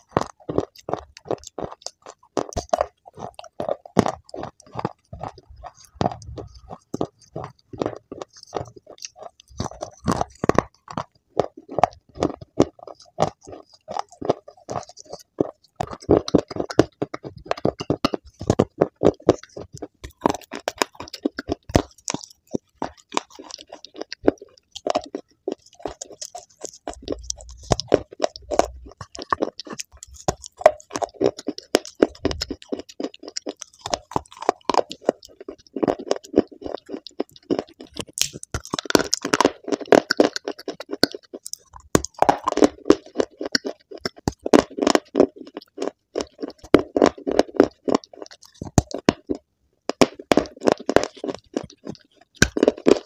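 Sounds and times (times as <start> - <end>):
person crunching clay: 0.0 - 45.2.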